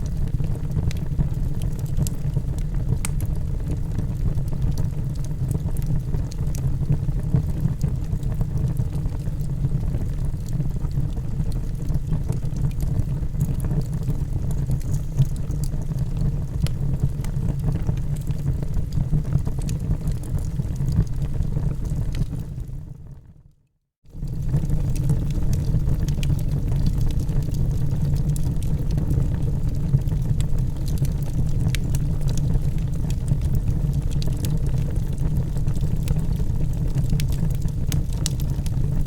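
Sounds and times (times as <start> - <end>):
fire roaring and crackling: 0.0 - 22.8, 24.1 - 39.0.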